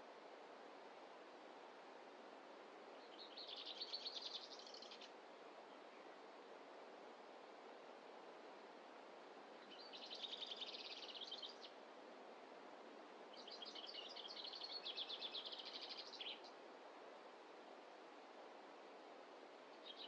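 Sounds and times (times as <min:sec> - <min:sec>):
forest background hiss: 0:00.0 - 0:20.0.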